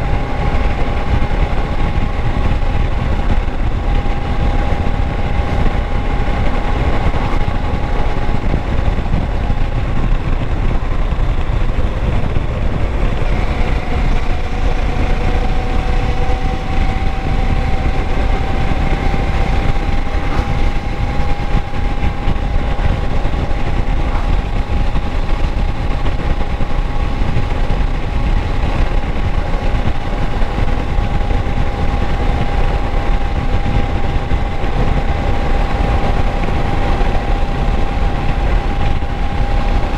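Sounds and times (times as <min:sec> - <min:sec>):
motorcycle engine rumbling: 0:00.0 - 0:39.9
steady high whine: 0:00.0 - 0:39.9.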